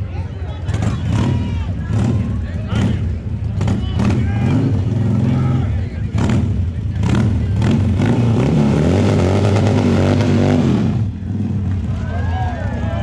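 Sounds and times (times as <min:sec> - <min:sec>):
motorcycle engine revving: 0:00.6 - 0:12.0.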